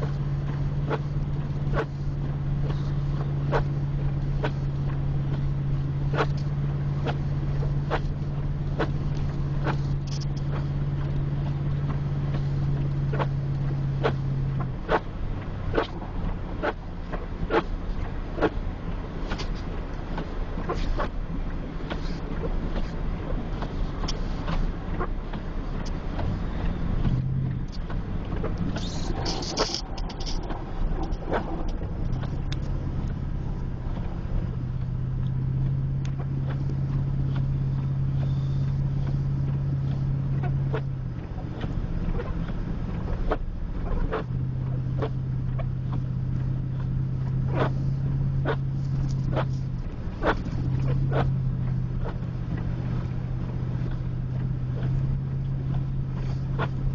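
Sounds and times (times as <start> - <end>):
truck engine and tyres droning: 0.0 - 56.9.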